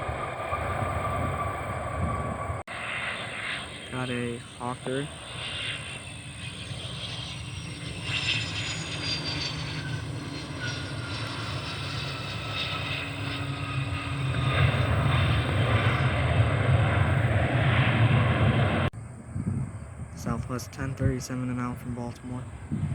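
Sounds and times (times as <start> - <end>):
jet engines whining: 0.0 - 22.9
jet rumble: 0.0 - 22.9.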